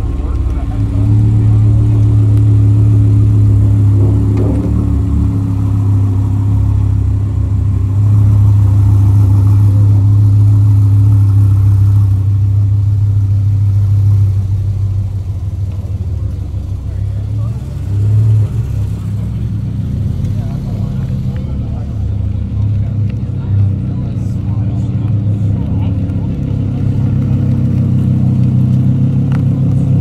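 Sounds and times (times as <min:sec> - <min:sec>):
car engine droning at low revs: 0:00.0 - 0:30.0.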